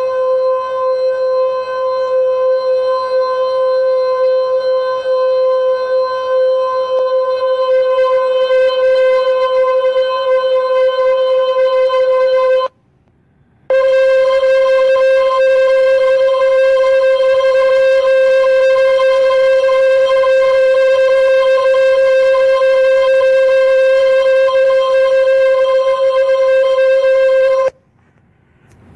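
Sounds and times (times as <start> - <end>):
buzzy electronic tone: 0.0 - 12.7, 13.7 - 27.8.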